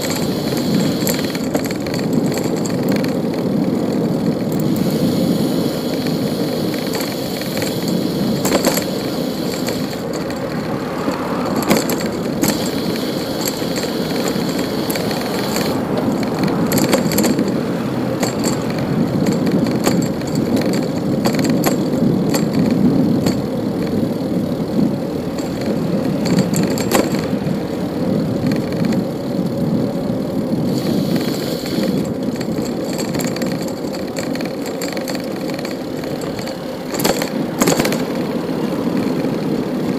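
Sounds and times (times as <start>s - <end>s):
bicycle tyres rolling on pavement: 0.0s - 39.9s
bike clicks and rattles: 0.0s - 39.9s
street traffic: 0.0s - 39.9s.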